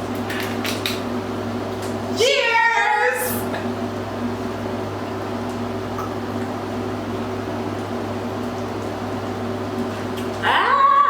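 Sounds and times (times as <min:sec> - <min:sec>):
low hum with hiss: 0:00.0 - 0:11.0.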